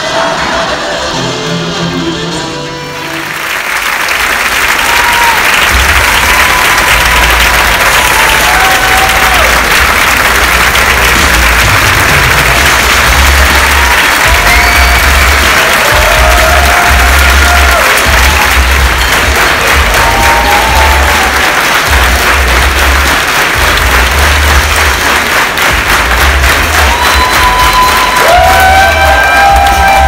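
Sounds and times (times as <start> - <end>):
large audience applauding: 2.9 - 30.0.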